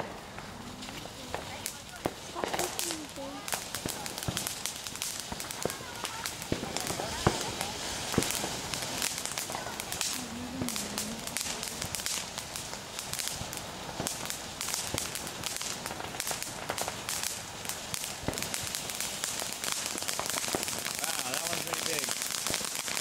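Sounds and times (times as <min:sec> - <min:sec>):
firework crackling pops: 0:00.0 - 0:23.0
firework fountain hissing: 0:00.0 - 0:23.0.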